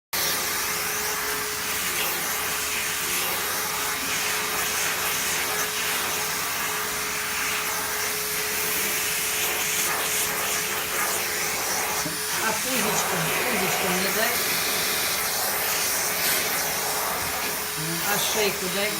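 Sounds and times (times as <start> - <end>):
vacuum cleaner running: 0.2 - 18.9.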